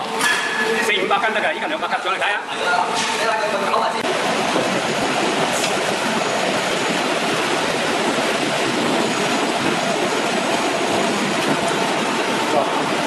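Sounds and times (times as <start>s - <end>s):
industrial machine running: 0.0s - 13.0s.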